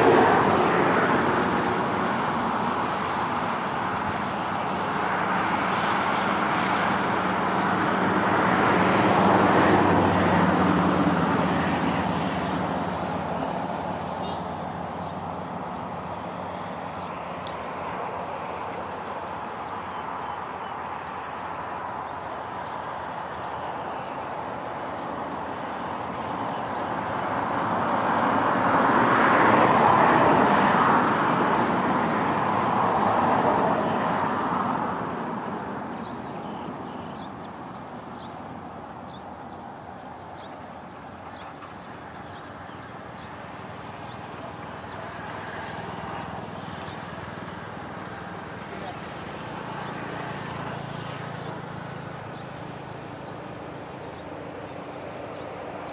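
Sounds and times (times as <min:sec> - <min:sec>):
engine and traffic noise: 0:00.0 - 0:55.9
vehicle passing by: 0:00.0 - 0:55.9.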